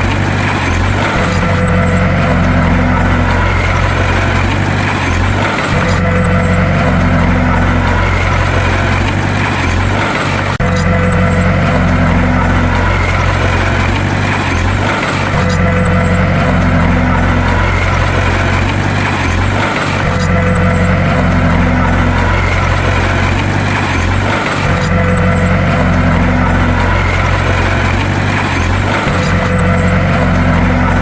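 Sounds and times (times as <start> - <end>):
bulldozer engine droning: 0.0 - 31.0.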